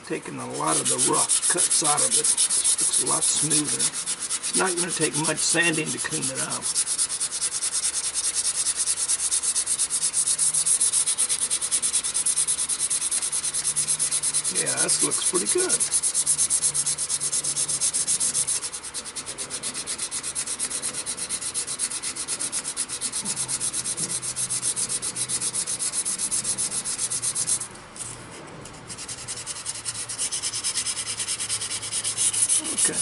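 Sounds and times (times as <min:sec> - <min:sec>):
lathe humming: 0:00.0 - 0:33.0
sandpaper rasping on spinning wood: 0:00.0 - 0:33.0.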